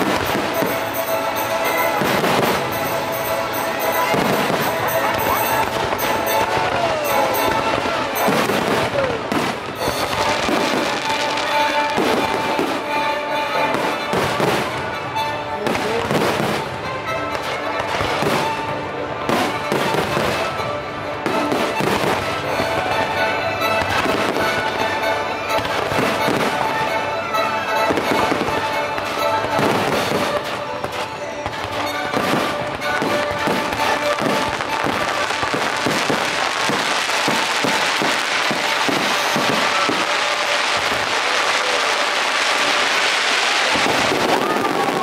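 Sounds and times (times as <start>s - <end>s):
fireworks bursting: 0.0s - 45.0s
music soundtrack: 0.0s - 45.0s.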